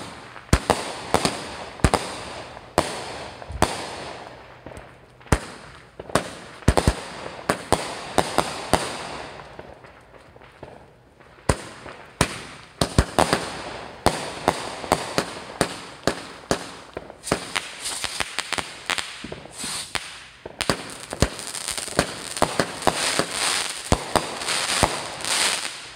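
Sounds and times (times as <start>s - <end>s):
firework bangs: 0.0s - 10.8s, 11.4s - 25.9s
firework crackling: 0.0s - 25.9s.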